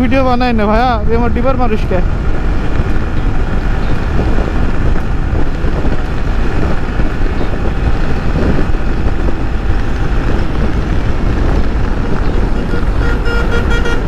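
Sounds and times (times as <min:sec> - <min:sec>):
motorcycle engine running: 0:00.0 - 0:14.0
wind rush on microphone: 0:00.0 - 0:14.0.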